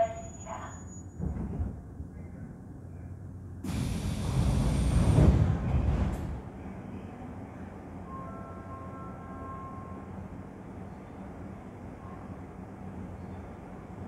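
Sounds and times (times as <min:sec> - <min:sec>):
subway car low rumble: 0:00.0 - 0:14.0.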